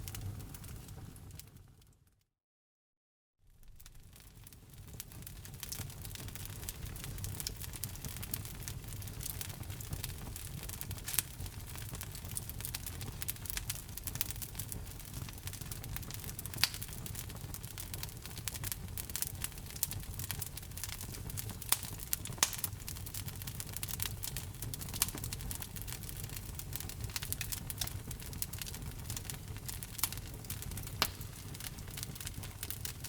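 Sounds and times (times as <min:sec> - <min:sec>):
fire crackling and popping: 0:00.0 - 0:02.0, 0:03.5 - 0:33.0.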